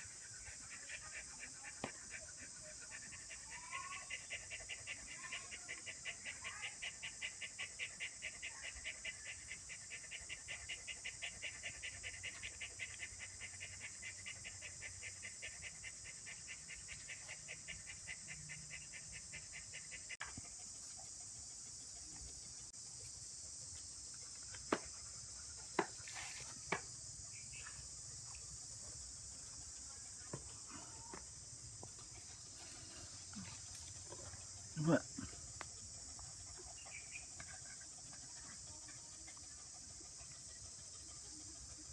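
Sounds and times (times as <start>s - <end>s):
rhythmic insect chirp: 0.0s - 41.9s.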